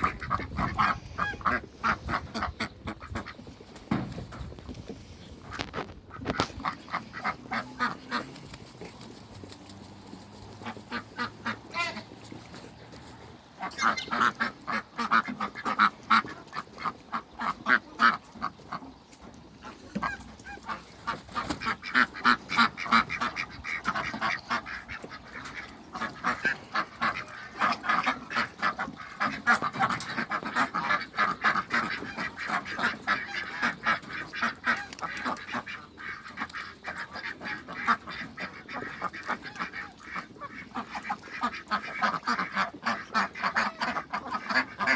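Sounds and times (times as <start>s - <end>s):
ducks quacking: 0.0s - 44.9s.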